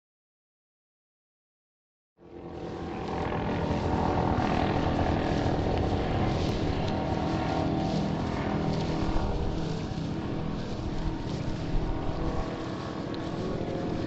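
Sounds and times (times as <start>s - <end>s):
aircraft propeller engines droning: 2.2s - 14.0s.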